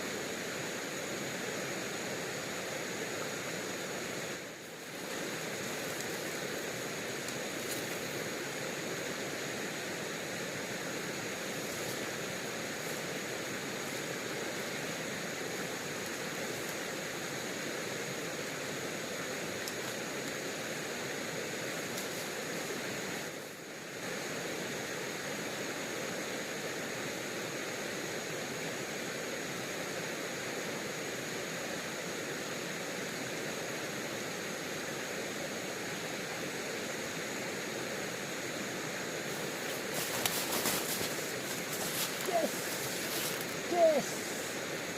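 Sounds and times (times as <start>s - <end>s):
river flowing: 0.0s - 44.9s.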